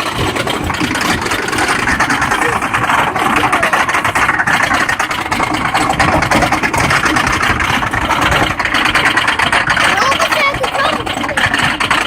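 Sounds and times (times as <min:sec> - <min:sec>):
loud mechanical noise with rattle: 0:00.0 - 0:12.0.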